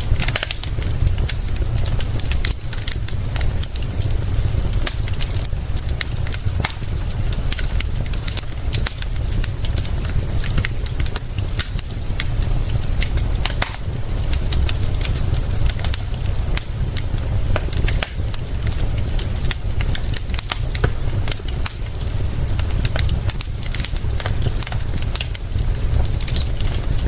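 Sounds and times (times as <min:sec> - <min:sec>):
rain hiss: 0:00.0 - 0:27.0
wood fire crackling: 0:00.0 - 0:27.0.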